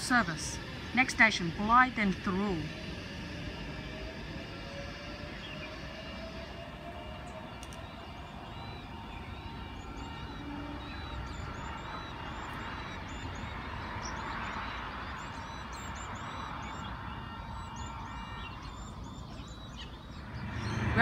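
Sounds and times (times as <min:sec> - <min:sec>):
birds chirping: 0:00.0 - 0:21.0
electric train rumbling: 0:00.0 - 0:21.0.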